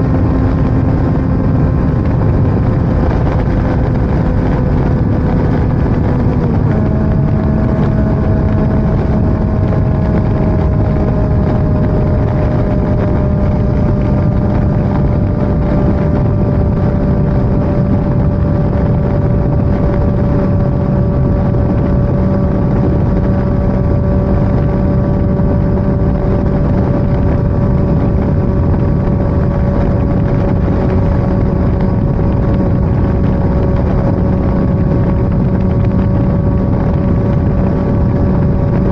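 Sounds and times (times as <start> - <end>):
vehicle engine running: 0.0 - 38.9
wind noise on microphone: 0.0 - 38.9.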